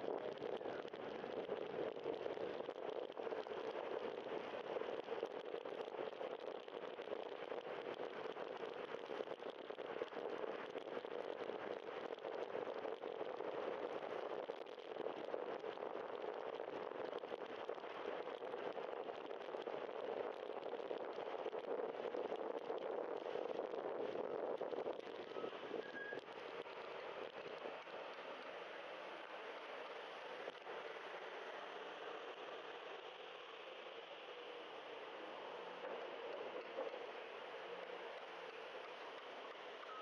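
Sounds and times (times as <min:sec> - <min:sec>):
wind rushing over camera: 0:00.0 - 0:40.0.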